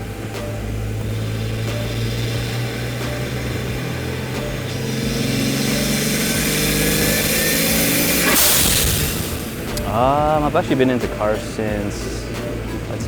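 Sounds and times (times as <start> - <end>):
blow-off valve hiss: 0.0 - 12.9
turbocharged car engine revving: 0.0 - 13.0.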